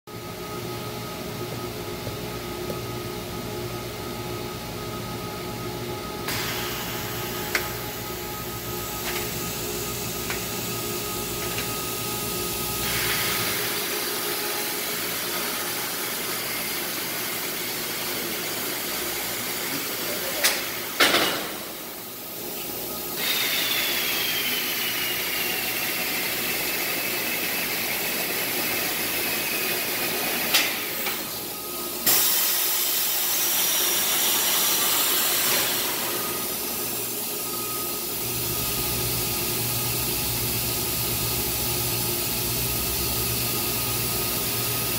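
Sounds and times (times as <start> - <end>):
industrial machinery hiss and hum: 0.1 - 44.9.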